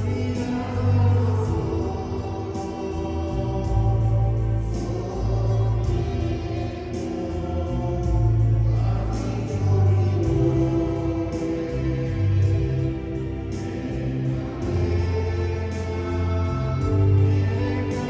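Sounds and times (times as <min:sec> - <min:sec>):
choir singing a slow hymn: 0:00.0 - 0:18.0
low held bass notes: 0:00.0 - 0:18.0.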